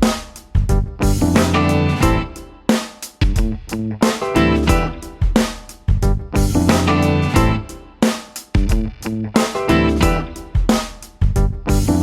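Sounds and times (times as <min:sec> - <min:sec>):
guitar bass and drum music: 0:00.0 - 0:12.0.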